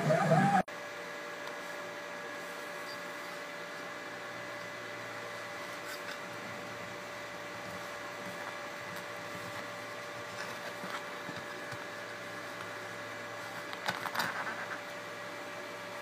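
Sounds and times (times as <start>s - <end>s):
machine hum with tones: 0.0s - 16.0s.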